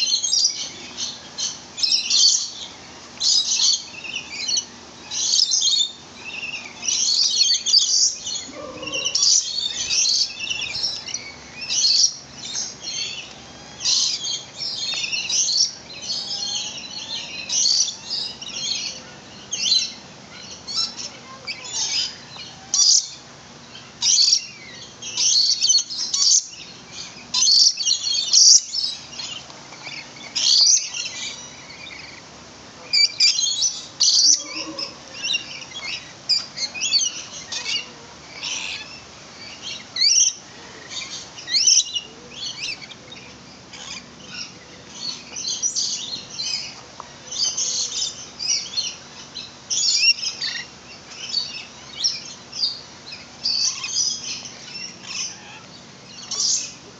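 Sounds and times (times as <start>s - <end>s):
birds chirping in chorus: 0.0s - 56.9s.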